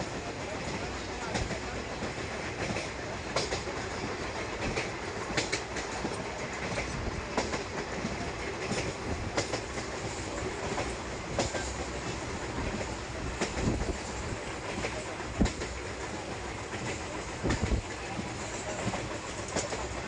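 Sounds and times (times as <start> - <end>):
train rolling rumble: 0.0 - 20.0
wheels clacking over track joints: 0.0 - 20.0.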